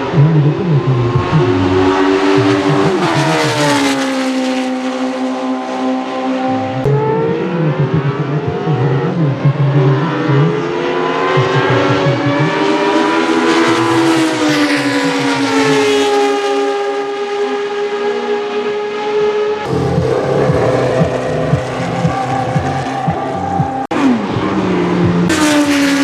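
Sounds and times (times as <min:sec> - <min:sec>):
racing car engines at high revs: 0:00.0 - 0:26.0.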